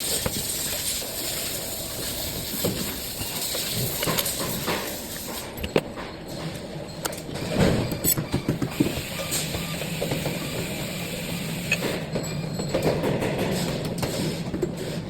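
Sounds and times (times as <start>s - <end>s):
workshop machinery noise: 0.0s - 15.0s.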